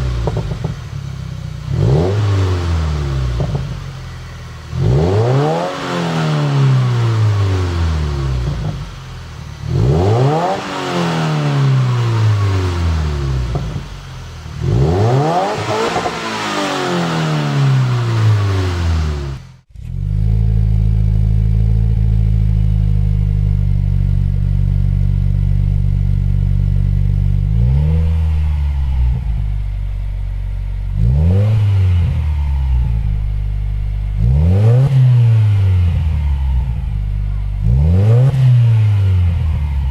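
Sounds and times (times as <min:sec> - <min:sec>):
car engine idling: 0:00.0 - 0:39.9
car engine revving: 0:00.0 - 0:39.9.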